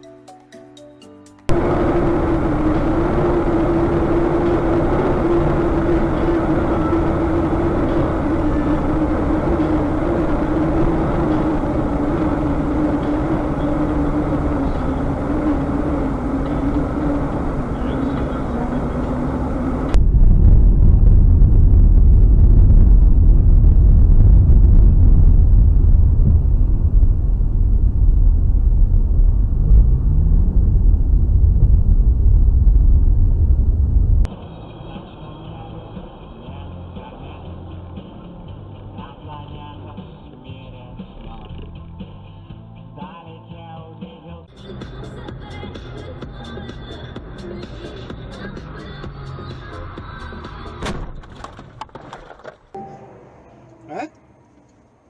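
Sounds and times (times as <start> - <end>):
vehicle engine drone: 1.5 - 42.7, 44.5 - 50.9, 52.8 - 55.0
road rumble: 1.5 - 55.0.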